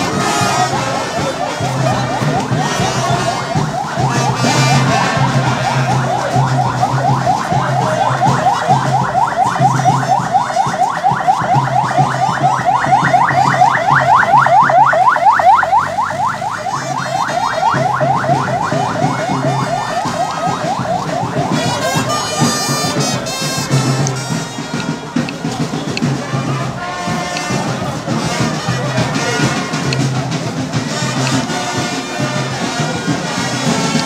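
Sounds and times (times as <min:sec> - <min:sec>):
siren in yelp mode: 0:00.0 - 0:34.0.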